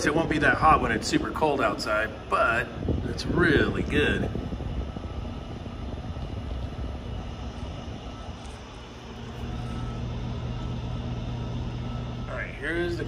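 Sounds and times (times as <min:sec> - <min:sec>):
air conditioner blower rushing air: 0:00.0 - 0:13.0
low steady hum: 0:00.0 - 0:13.0.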